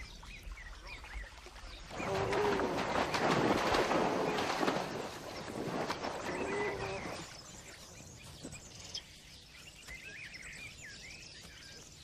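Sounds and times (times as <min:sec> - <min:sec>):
birds calling and chirping: 0:00.0 - 0:12.0.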